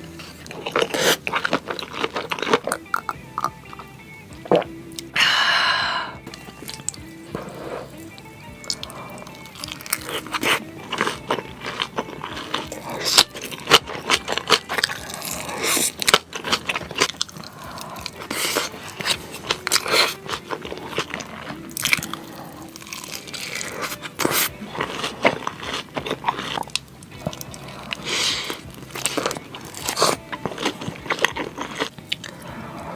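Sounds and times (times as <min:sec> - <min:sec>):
chewing and biting noodles: 0:00.0 - 0:05.2, 0:06.2 - 0:32.9
crunchy wet mouth clicks: 0:00.3 - 0:05.2, 0:06.2 - 0:32.4.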